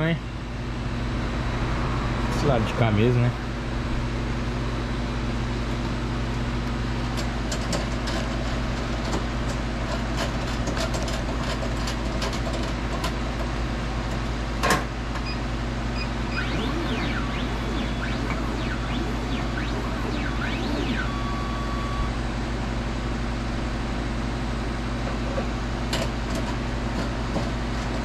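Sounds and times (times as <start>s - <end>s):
electrical machine hum: 0.0s - 28.0s.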